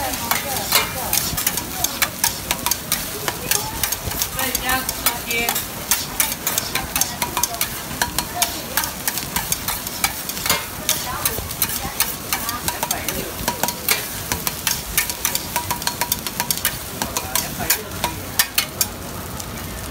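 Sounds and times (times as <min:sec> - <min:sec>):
metal spatula scraping griddle: 0:00.0 - 0:18.9
rice sizzling: 0:00.0 - 0:19.9.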